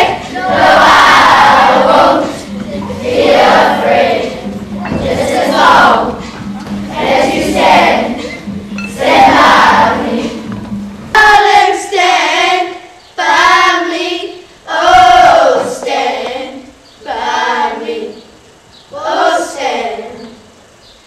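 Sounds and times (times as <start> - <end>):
children singing: 0.0 - 10.6, 11.2 - 18.3, 18.9 - 20.4.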